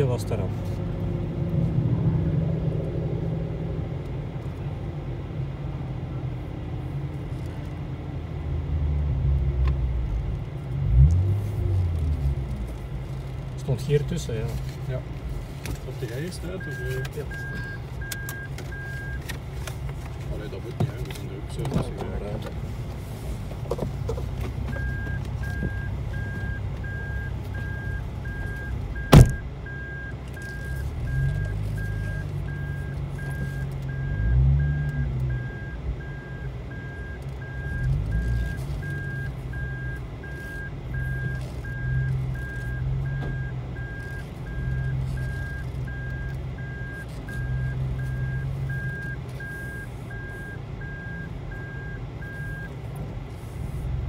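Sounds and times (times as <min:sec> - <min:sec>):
car engine at low revs: 0:00.0 - 0:54.0.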